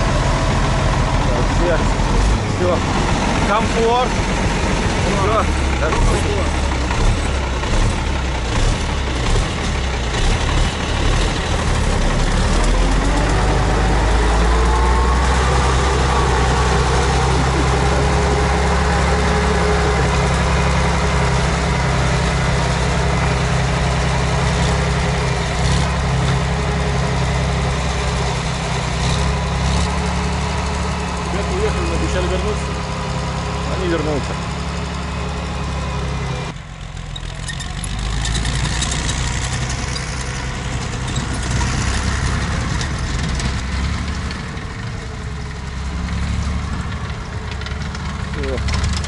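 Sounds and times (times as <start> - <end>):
atv engine revving: 0.0 - 49.0.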